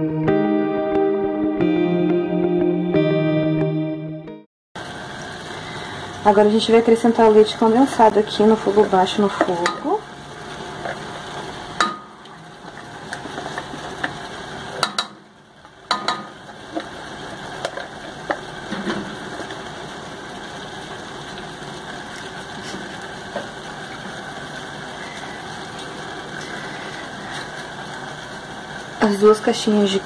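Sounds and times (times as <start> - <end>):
low mechanical hum: 4.8 - 30.0.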